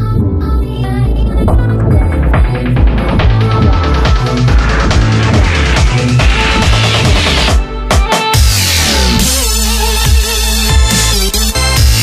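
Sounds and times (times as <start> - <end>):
dubstep music with heavy bass: 0.0 - 12.0.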